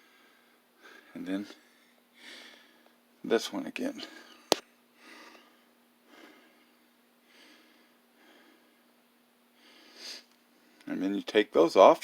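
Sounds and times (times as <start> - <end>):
slow breathing: 0.0 - 3.0, 4.0 - 10.8.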